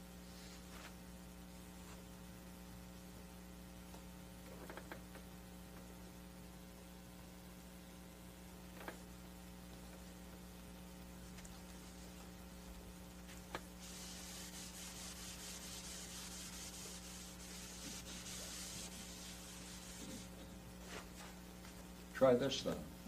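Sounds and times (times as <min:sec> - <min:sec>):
electrical mains hum: 0:00.0 - 0:23.0
soft fluttering hiss: 0:03.1 - 0:23.0.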